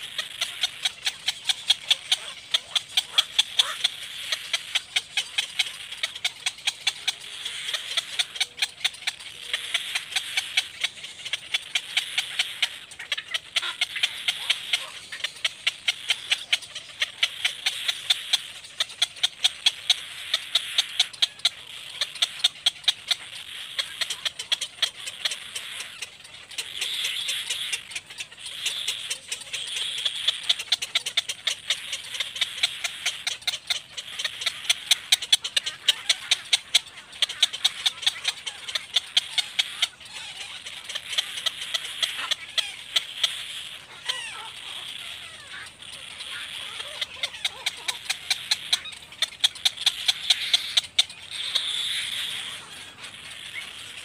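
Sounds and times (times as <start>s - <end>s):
chicks rattling begging chatter: 0.0s - 54.0s.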